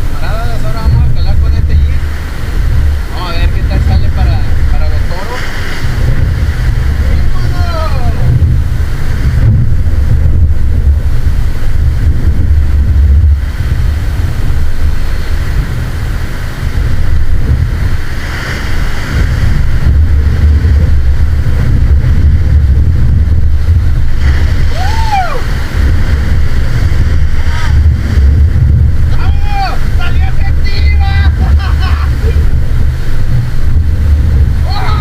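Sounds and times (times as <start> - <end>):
ocean surf: 0.0 - 35.0
wind buffeting microphone: 0.0 - 35.0.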